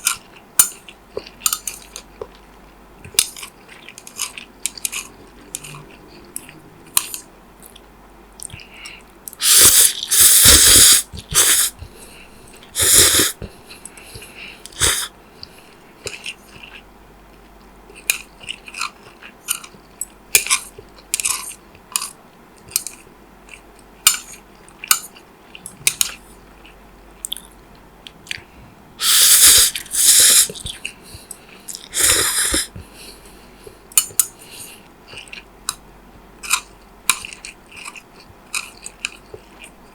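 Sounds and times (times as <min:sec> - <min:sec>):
chewing and wet mouth clicks: 0:00.0 - 0:11.8, 0:12.5 - 0:32.9, 0:33.6 - 0:35.8, 0:36.4 - 0:39.8.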